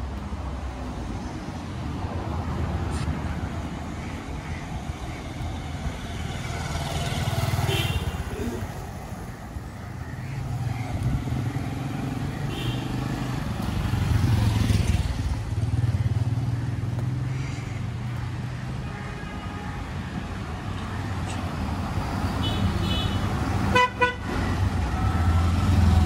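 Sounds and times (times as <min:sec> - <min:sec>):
vehicle engines passing: 0:00.0 - 0:18.8, 0:19.8 - 0:26.0.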